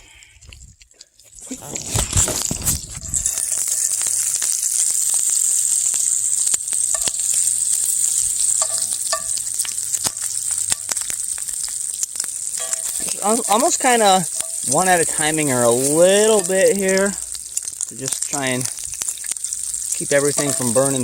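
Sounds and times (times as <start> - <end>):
food sizzling in grease: 0.0 - 21.0
grease clicks and pops: 0.0 - 21.0.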